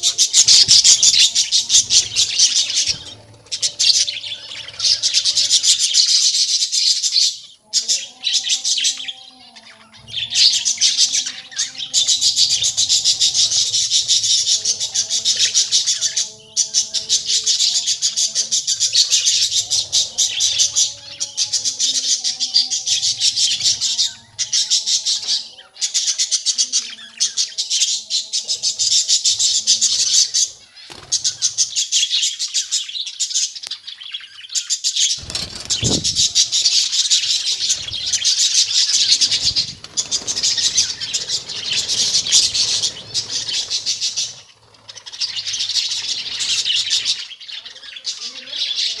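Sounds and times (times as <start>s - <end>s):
budgerigars chirping and chattering: 0.0s - 49.0s.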